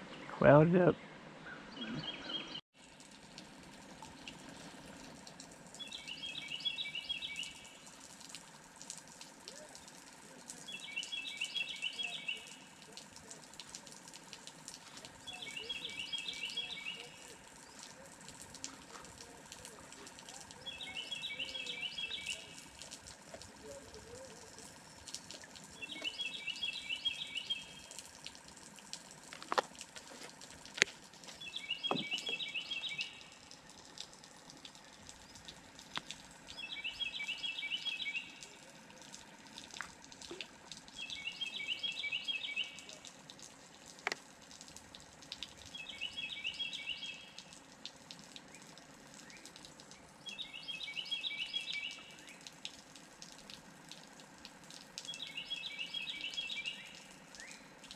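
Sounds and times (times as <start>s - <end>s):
songbird singing: 0.0s - 2.6s, 4.0s - 43.2s, 43.8s - 47.6s, 48.2s - 52.6s, 54.5s - 57.9s.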